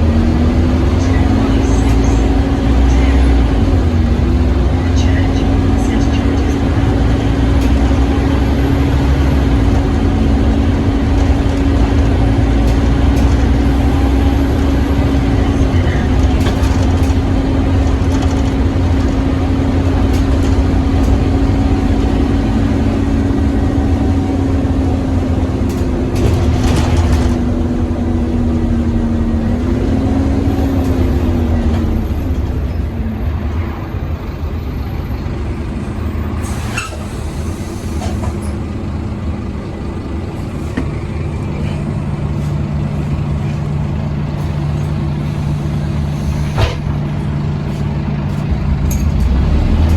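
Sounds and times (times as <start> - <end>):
bus engine whine and rumble: 0.0 - 49.9.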